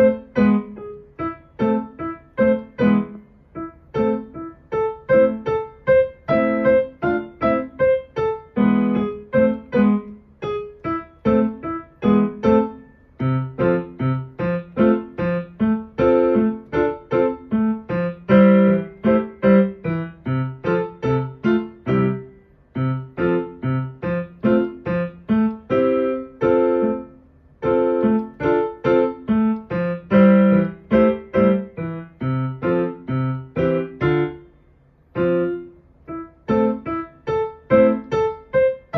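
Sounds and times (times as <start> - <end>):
piano notes and chords: 0.0 - 38.9.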